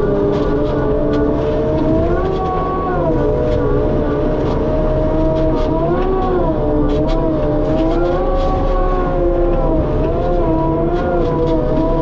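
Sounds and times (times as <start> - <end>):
machine drone with whine: 0.0 - 12.0.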